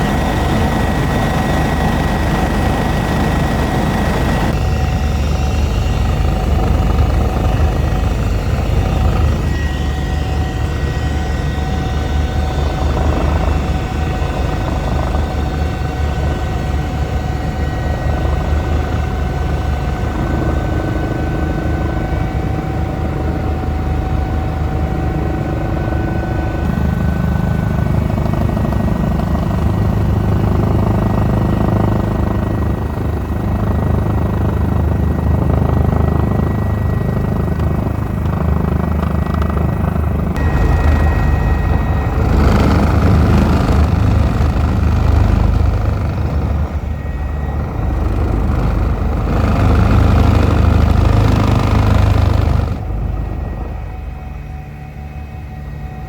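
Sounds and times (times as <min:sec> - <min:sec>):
helicopter in flight: 0:00.0 - 0:56.0
thin turbine whine: 0:00.0 - 0:56.0.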